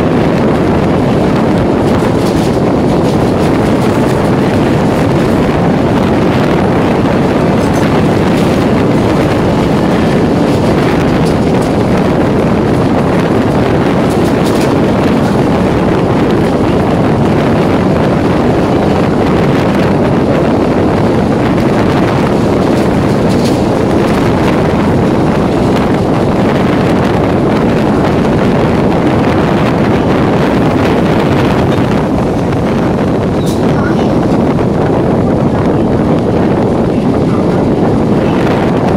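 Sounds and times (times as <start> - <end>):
train wheels rushing on rails: 0.0 - 38.9
wind blowing over microphone: 0.0 - 38.9.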